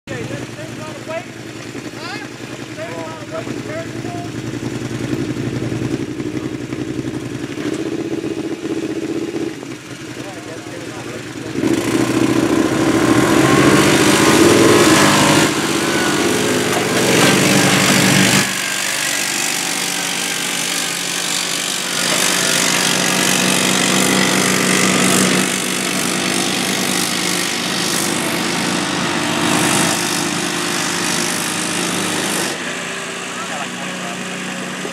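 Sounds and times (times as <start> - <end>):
engine running hard at high revs: 0.1 - 34.9.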